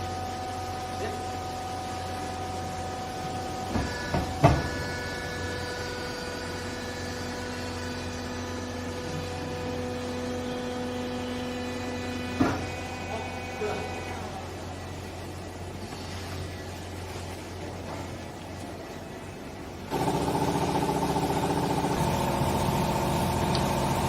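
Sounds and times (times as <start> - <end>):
hydraulic pump humming: 0.0 - 24.0.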